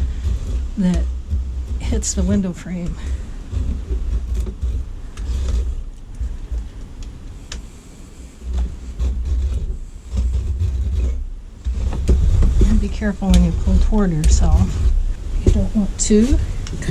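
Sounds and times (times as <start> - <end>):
knife scraping wood: 0.0 - 16.9
low rumble: 0.0 - 16.9.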